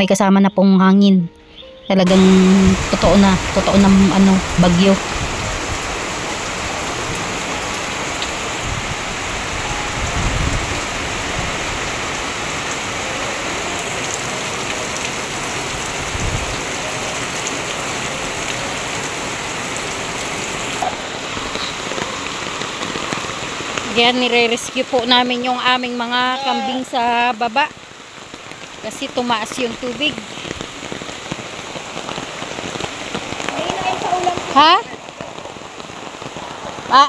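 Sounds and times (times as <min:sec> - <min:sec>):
heavy rain pouring: 0:02.0 - 0:37.0.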